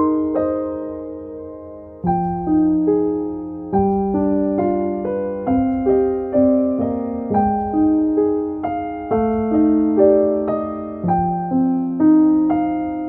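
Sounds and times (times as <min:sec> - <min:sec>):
gentle piano broken chords: 0:00.0 - 0:13.0.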